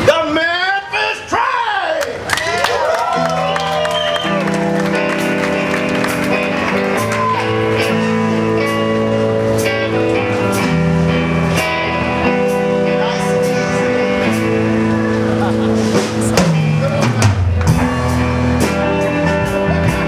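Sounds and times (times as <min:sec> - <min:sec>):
live rockabilly blues band: 0:02.2 - 0:20.0.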